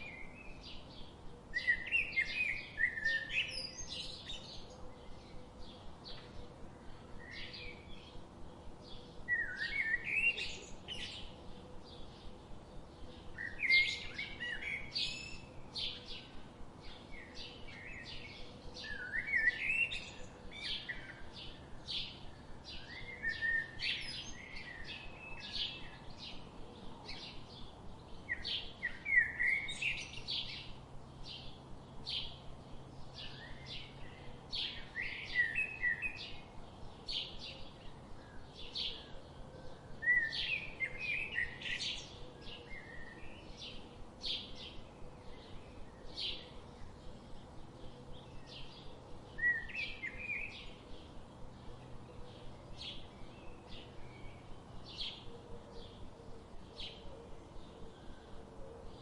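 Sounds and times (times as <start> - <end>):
bird warbling song: 0.0 - 59.0.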